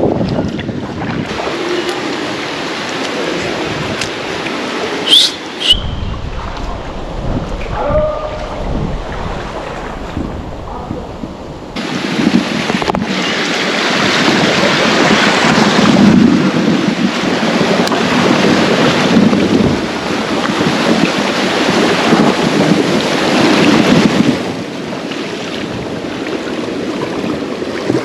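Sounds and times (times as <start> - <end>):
water rushing over rapids: 0.0 - 28.0.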